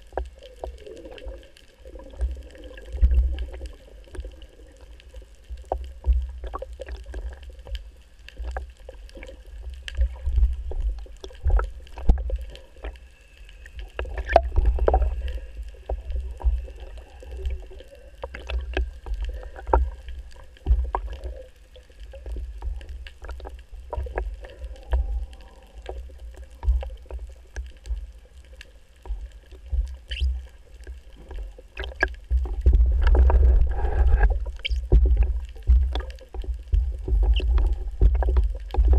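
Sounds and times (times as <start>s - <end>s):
faint steady tones: 0.0s - 38.9s
underwater water rumble: 0.0s - 38.9s.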